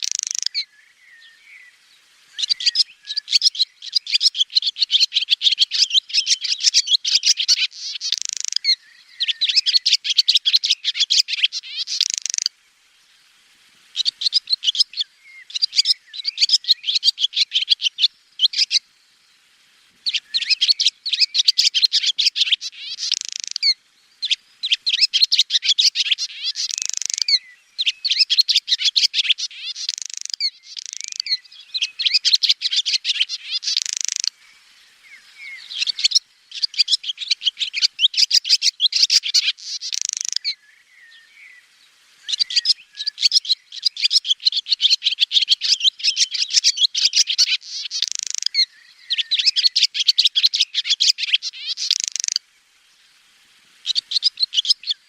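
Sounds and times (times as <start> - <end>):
swallow twittering and trilling: 0.0 - 12.6, 13.9 - 18.9, 20.0 - 52.4, 53.8 - 55.0.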